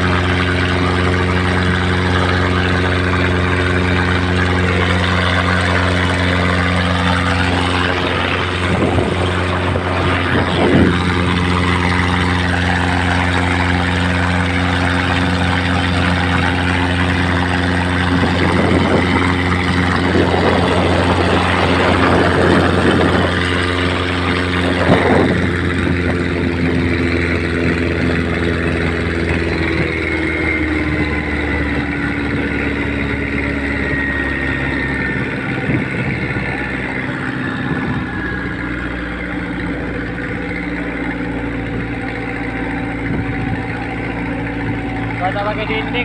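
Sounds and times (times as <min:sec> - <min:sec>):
boat diesel engine running: 0:00.0 - 0:46.0
water rushing along hull: 0:00.0 - 0:46.0.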